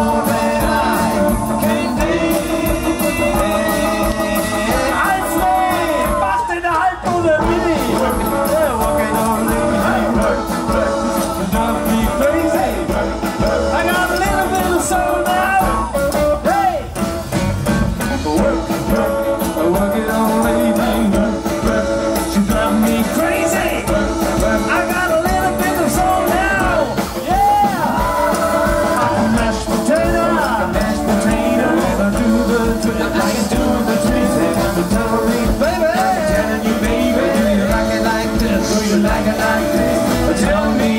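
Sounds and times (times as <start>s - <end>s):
person singing: 0.0s - 17.0s, 18.0s - 40.9s
drums: 0.0s - 40.9s
electric guitar: 0.0s - 40.9s
keyboard: 0.0s - 40.9s
upright bass: 0.0s - 40.9s.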